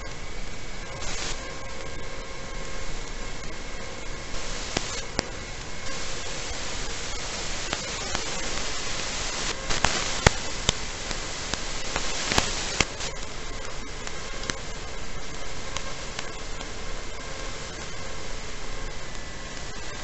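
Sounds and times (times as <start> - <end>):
static hiss: 0.0 - 20.0
sharp crackling pops: 0.8 - 20.0.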